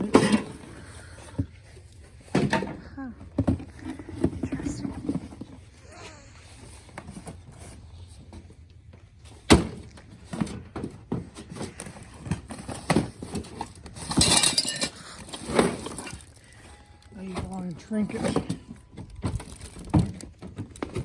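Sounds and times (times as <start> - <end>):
objects clunking: 0.0 - 21.0.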